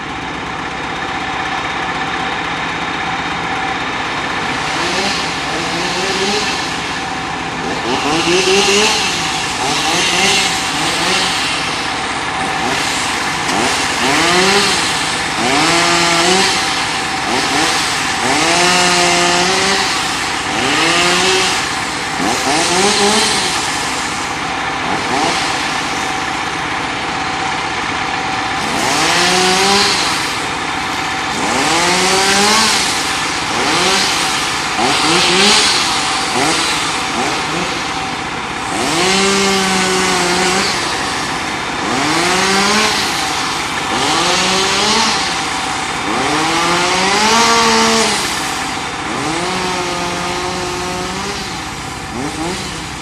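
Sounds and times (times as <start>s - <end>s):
engine revving: 0.0s - 53.0s.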